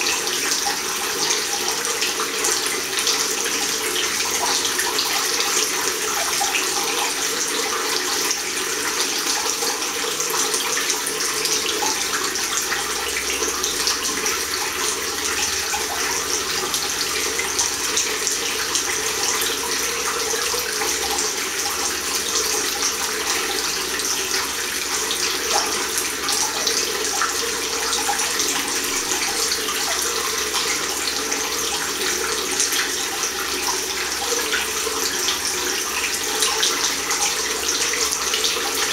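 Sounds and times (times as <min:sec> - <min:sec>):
tap water splashing into basin: 0:00.0 - 0:38.9.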